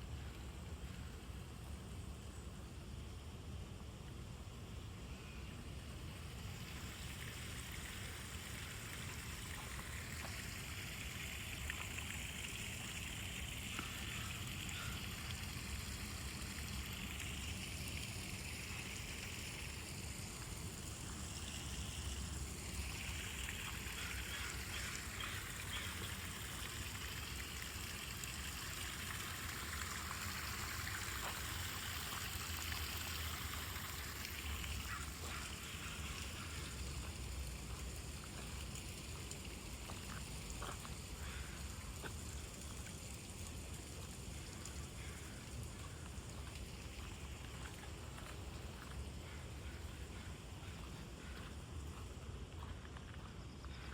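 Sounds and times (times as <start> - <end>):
running water rushing: 5.6 - 53.9.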